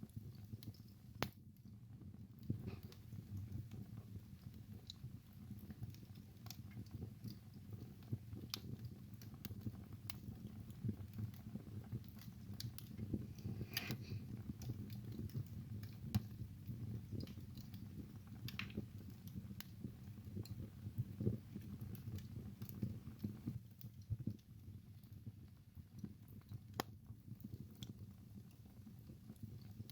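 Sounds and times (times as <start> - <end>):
logs crackling and popping: 0.0 - 29.9
low rumble of flames: 0.0 - 29.9.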